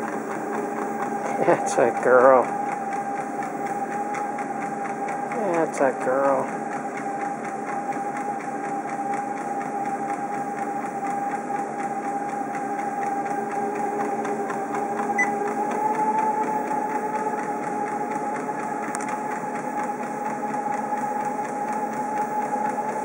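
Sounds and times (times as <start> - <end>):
treadmill belt whirring: 0.0 - 23.0
treadmill motor whine: 0.0 - 23.0.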